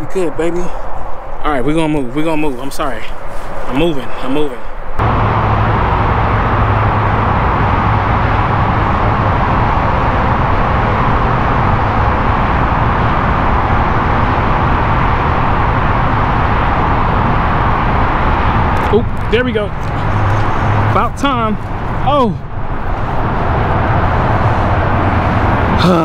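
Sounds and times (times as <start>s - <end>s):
freeway traffic roar: 0.0s - 26.0s.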